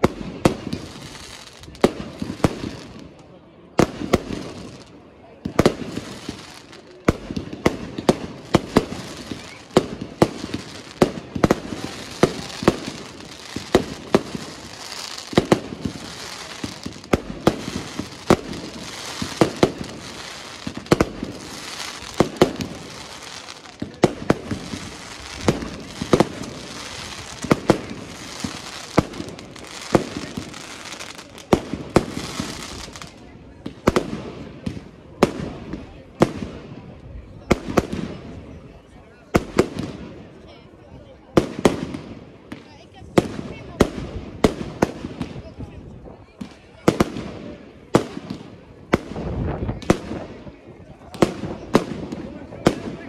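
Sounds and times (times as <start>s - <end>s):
fireworks bursting with bangs: 0.0s - 40.4s, 41.2s - 53.0s
fireworks hiss and crackle: 0.0s - 53.0s.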